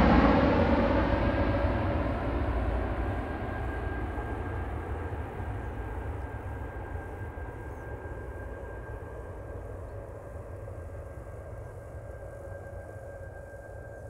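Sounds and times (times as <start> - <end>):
turboprop aircraft rumble and whine: 0.0 - 14.0.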